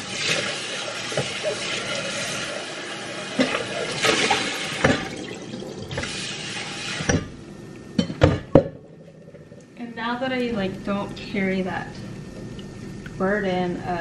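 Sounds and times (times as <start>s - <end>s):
steady cooking hiss: 0.0s - 14.0s.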